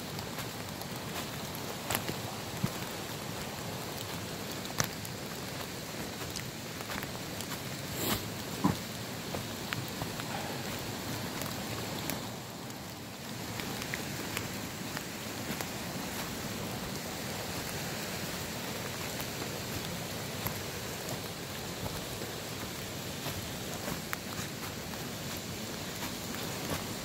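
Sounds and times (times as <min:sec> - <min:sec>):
rain pattering: 0:00.0 - 0:27.0
raindrops ticking: 0:00.0 - 0:27.0.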